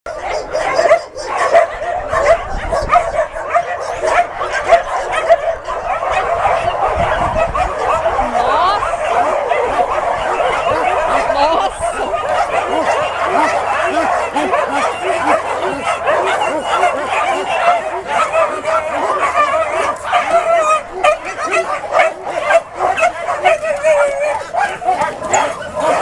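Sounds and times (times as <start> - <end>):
pack of dogs barking: 0.1 - 26.0.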